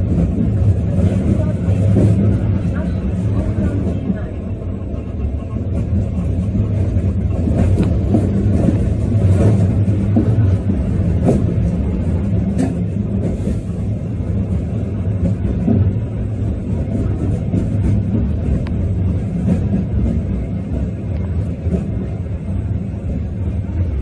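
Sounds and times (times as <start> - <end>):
streetcar motors and wheels rumbling: 0.0 - 24.0.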